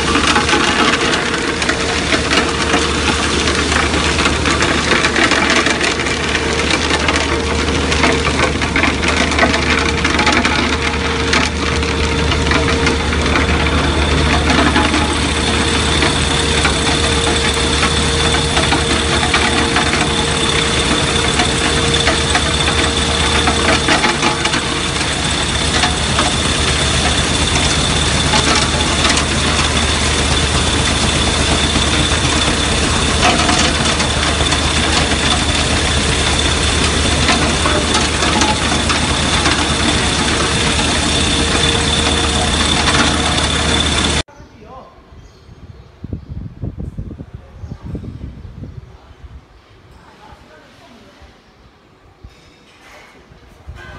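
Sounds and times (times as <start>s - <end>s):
low machine hum: 0.0s - 44.3s.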